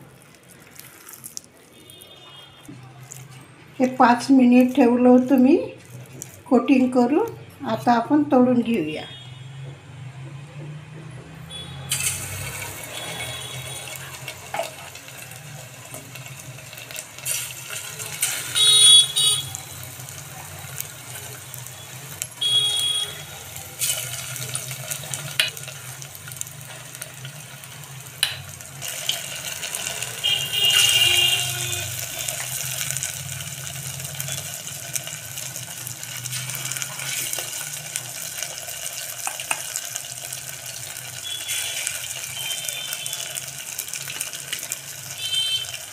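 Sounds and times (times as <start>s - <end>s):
chicken deep-frying in oil: 0.0s - 7.2s, 11.5s - 45.9s.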